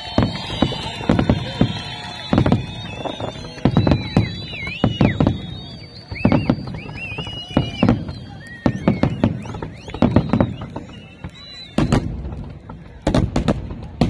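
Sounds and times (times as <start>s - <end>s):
fireworks bangs: 0.0s - 14.0s
whistling fireworks: 0.0s - 14.0s.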